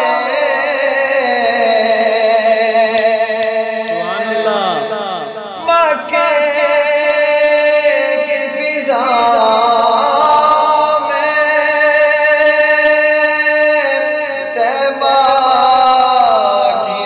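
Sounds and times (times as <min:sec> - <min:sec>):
man singing long held notes: 0:00.0 - 0:17.0.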